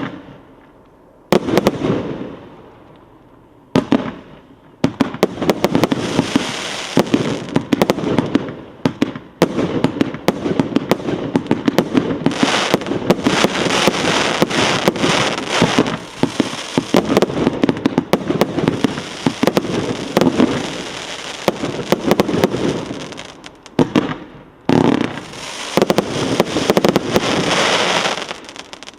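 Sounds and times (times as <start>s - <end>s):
firework battery firing: 4.9s - 28.9s.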